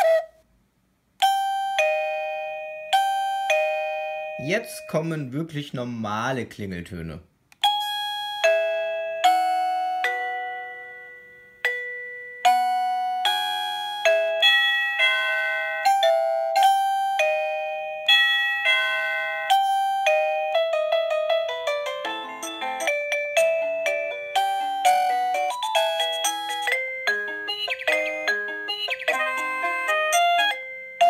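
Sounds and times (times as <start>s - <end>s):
electronic doorbell chime melody: 1.2s - 5.4s, 7.6s - 31.0s.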